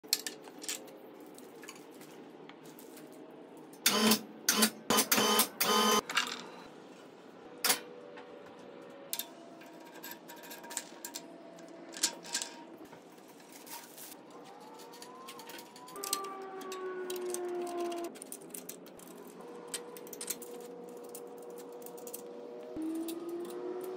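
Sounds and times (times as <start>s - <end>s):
parts and tools clattering: 0.0s - 4.0s, 6.0s - 6.7s, 9.1s - 23.9s.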